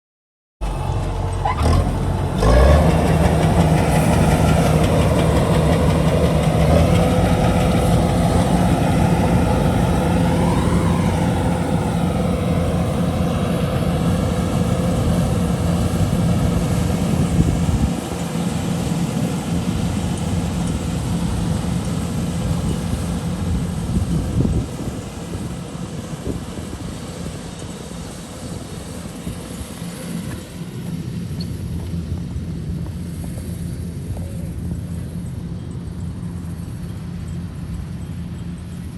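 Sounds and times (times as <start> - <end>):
engine humming: 0.6 - 38.9.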